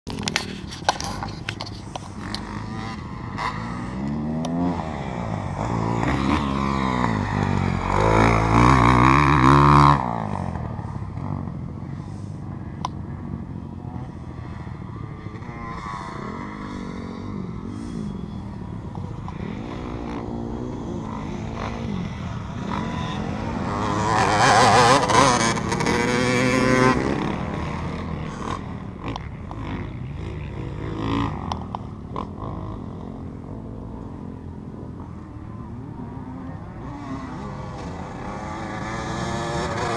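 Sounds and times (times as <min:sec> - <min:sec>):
motocross bike revving: 0:00.2 - 0:39.9.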